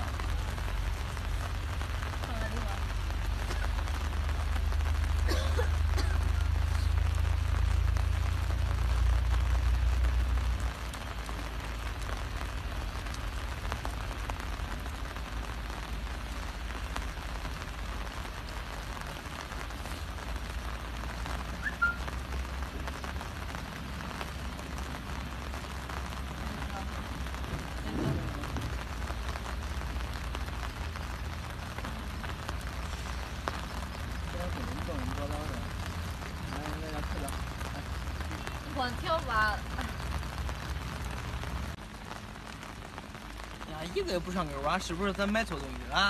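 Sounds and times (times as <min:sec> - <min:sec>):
rain pattering on umbrellas: 0:00.0 - 0:46.0.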